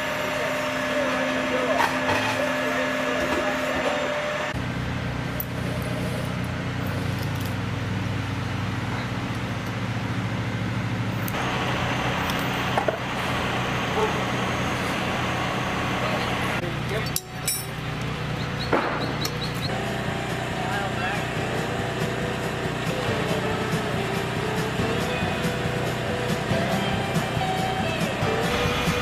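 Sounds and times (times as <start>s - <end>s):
heavy machinery engine running: 0.0s - 29.0s.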